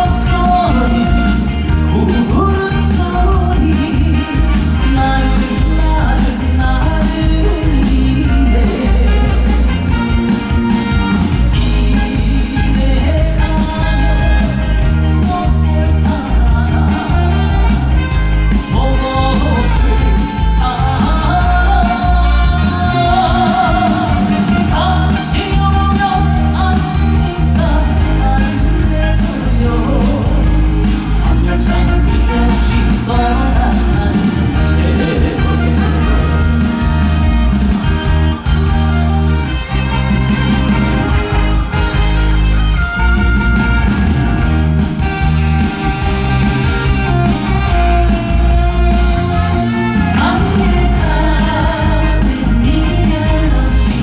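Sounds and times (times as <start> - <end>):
person singing: 0.0 - 43.6, 44.4 - 54.0
live pop band with heavy bass: 0.0 - 54.0.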